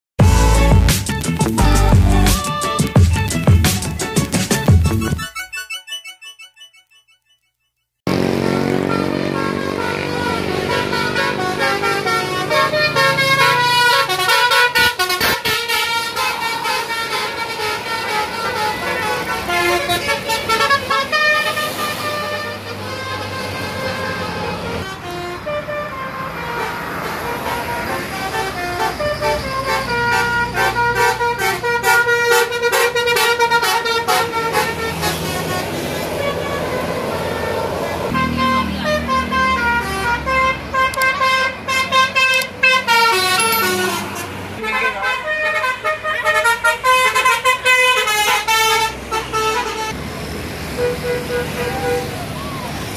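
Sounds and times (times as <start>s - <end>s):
musical air horn playing a tune: 0.2s - 3.3s, 8.1s - 50.0s
bus engine running low: 8.1s - 44.6s, 46.8s - 52.9s.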